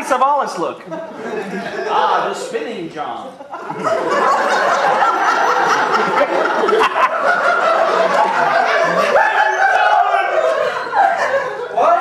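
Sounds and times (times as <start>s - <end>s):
audience laughing: 0.9s - 2.3s, 3.2s - 12.0s.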